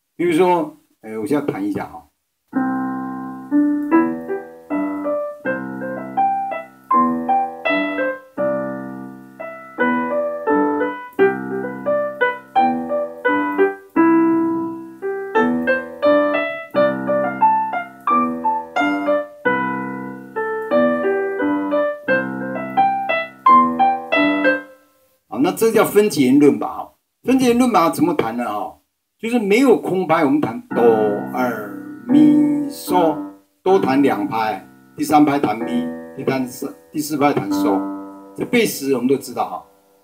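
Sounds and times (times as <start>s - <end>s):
piano playing rumba rhythm: 2.5s - 24.9s, 30.3s - 40.0s.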